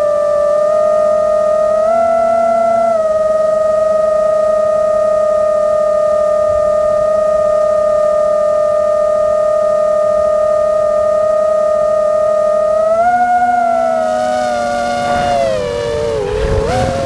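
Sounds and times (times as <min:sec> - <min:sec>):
synthesizer drone tone: 0:00.0 - 0:17.0.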